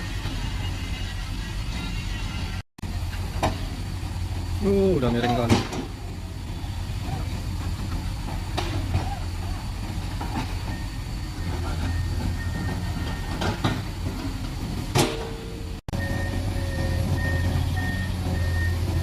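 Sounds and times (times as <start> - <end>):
diesel engines humming: 0.0 - 19.0.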